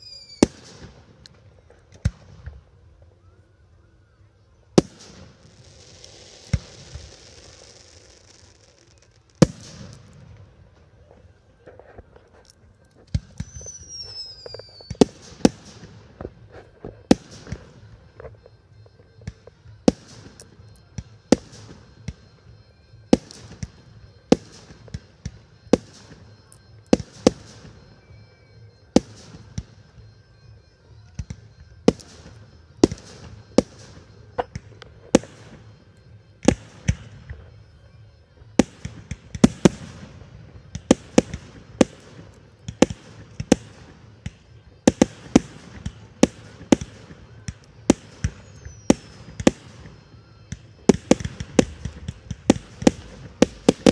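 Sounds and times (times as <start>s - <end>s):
fireworks bursting with echo: 0.0s - 3.4s, 4.5s - 53.9s.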